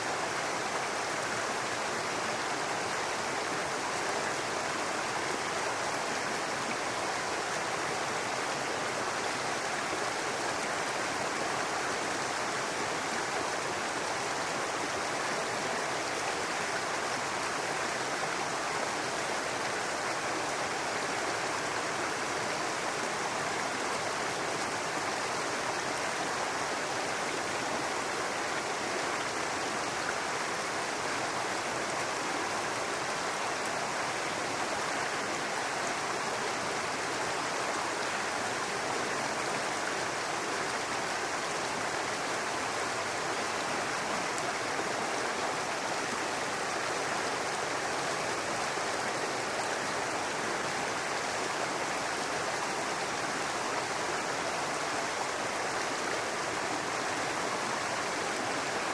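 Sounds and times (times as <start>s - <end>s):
brook babbling over stones: 0.0s - 58.9s.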